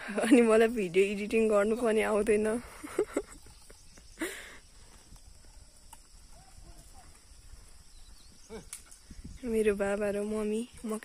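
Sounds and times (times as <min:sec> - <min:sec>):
open field ambience: 0:00.0 - 0:11.0.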